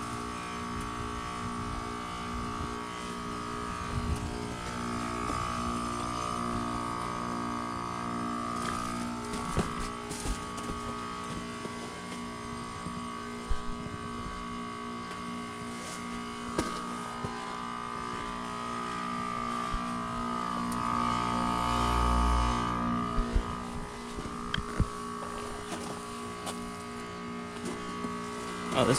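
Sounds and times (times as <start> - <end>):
condenser fan: 0.0 - 28.9
heat pump compressor humming: 0.0 - 28.9.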